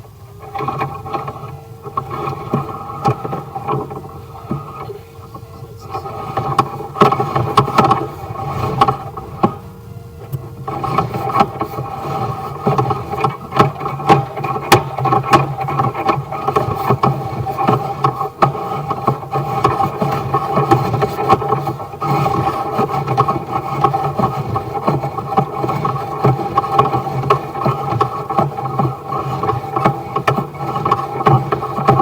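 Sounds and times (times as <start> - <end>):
machine running: 0.0 - 32.0
irregular clicks and knocks: 0.4 - 32.0.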